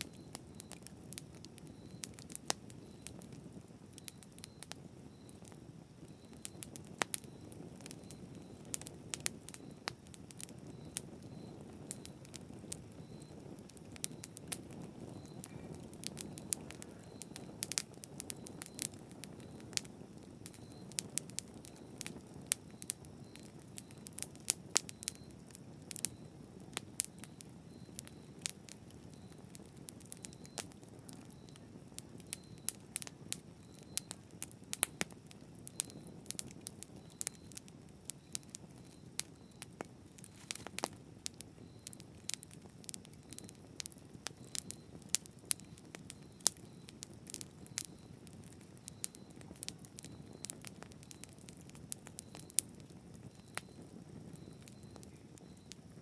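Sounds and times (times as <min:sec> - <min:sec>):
campfire crackling and popping: 0:00.0 - 0:56.0
low rumble of flames: 0:00.0 - 0:56.0.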